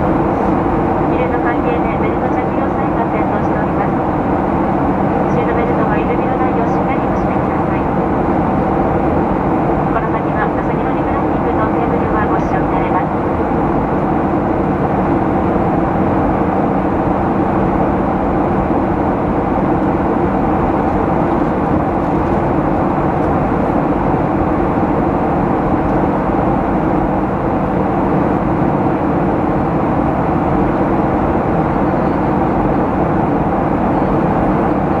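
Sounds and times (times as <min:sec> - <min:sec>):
airflow: 0:00.0 - 0:35.0
constant low hum: 0:00.0 - 0:35.0
jet engines droning: 0:00.0 - 0:35.0.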